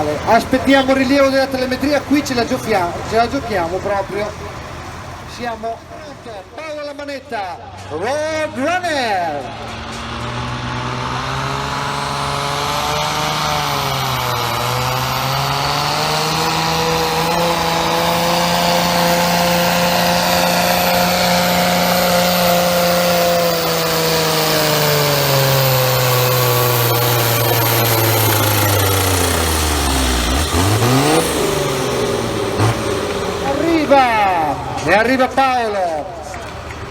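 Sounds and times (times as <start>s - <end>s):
tractor engine at full throttle: 0.0s - 36.9s.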